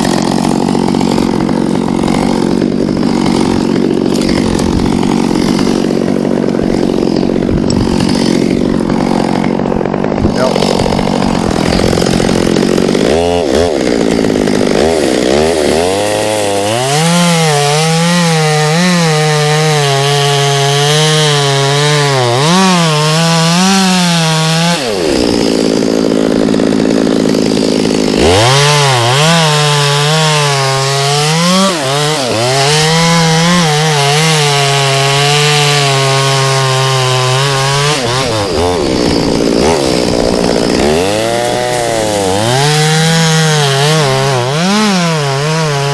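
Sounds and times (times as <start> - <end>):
chainsaw cutting through wood: 0.0 - 45.9.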